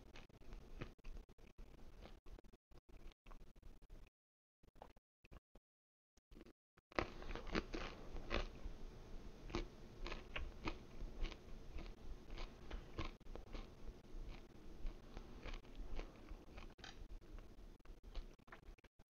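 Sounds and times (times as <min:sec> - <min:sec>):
man chewing crisp food: 0:00.0 - 0:04.1, 0:06.3 - 0:18.9.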